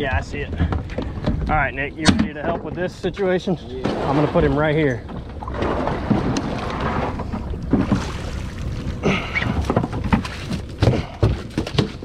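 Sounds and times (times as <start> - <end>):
boat on water: 0.0 - 12.0.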